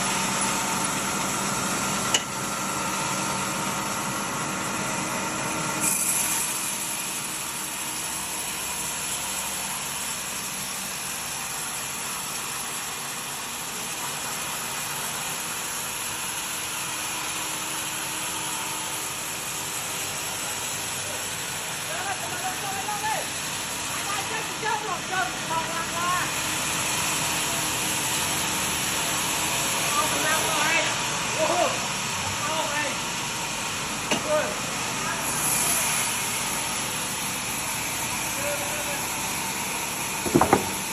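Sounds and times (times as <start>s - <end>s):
woodworking power tool running: 0.0s - 40.9s.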